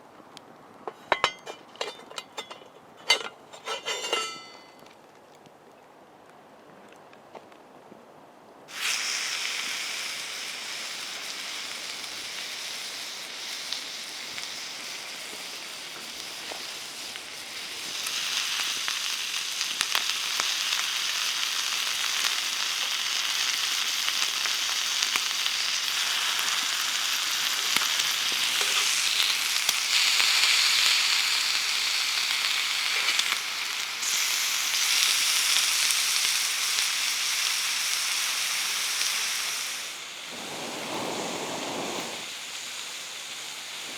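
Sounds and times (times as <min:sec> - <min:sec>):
campfire crackles: 0:08.6 - 0:43.9
meat sizzling on a grill: 0:08.7 - 0:43.9.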